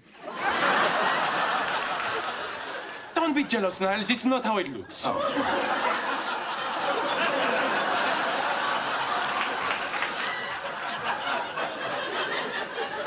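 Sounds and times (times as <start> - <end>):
audience laughing: 0.2 - 13.0.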